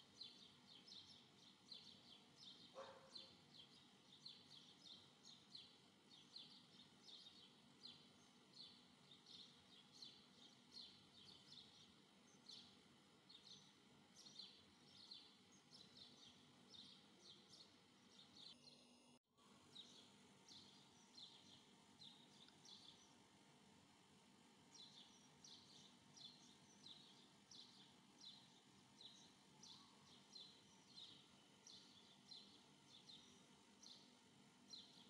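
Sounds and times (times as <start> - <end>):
bird chirping: 0.1 - 19.0, 19.6 - 23.2, 24.7 - 35.0.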